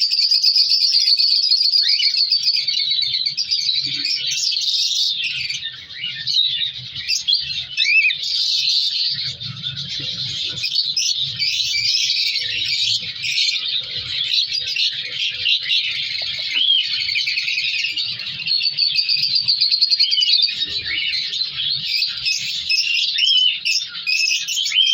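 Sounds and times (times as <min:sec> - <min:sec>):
cockatiels chirping: 0:00.0 - 0:24.9.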